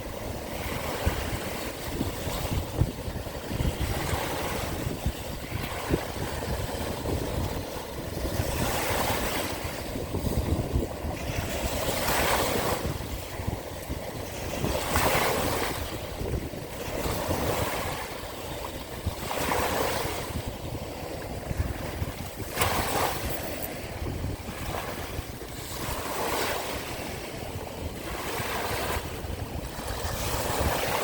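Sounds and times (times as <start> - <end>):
sea waves washing in: 0.0 - 31.0
wind buffeting microphone: 0.0 - 31.0.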